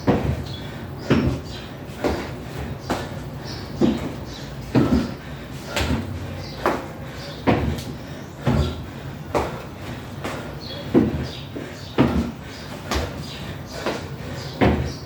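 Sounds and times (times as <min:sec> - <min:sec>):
footfalls thudding on box and floor: 0:00.0 - 0:03.2, 0:03.8 - 0:09.6, 0:10.2 - 0:15.0.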